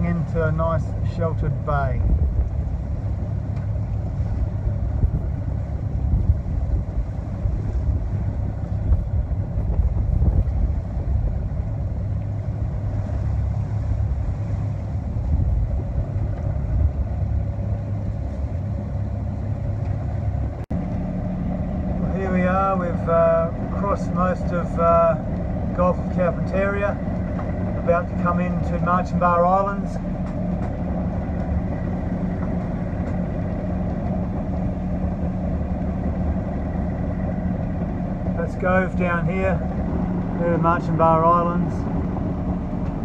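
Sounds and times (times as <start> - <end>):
water rushing past hull: 0.0 - 43.0
wind rumbling: 0.0 - 43.0.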